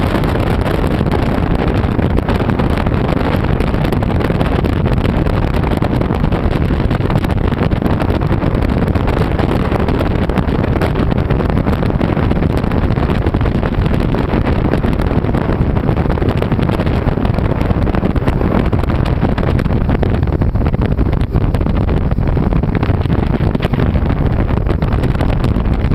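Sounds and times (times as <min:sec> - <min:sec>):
motorboat engine: 0:00.0 - 0:25.9
water noise: 0:00.0 - 0:25.9
wind buffeting microphone: 0:00.0 - 0:25.9.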